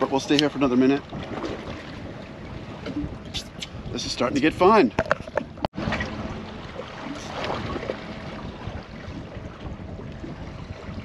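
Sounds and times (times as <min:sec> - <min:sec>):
sea water washing: 0:00.0 - 0:11.0
wind buffeting microphone: 0:00.0 - 0:11.0.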